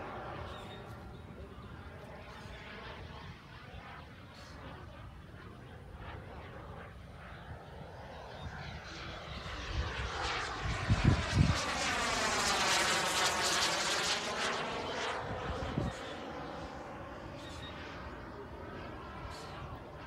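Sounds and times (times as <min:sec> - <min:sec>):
model airplane motor flying past: 0:00.0 - 0:20.0.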